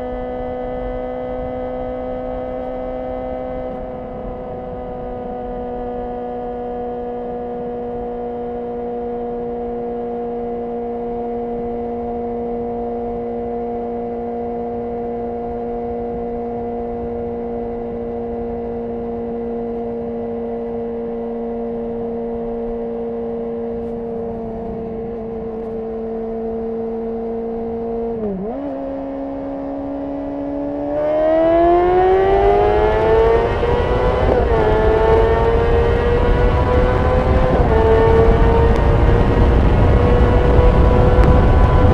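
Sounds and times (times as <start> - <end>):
motorcycle engine revving: 0.0 - 41.9
wind noise: 0.0 - 41.9.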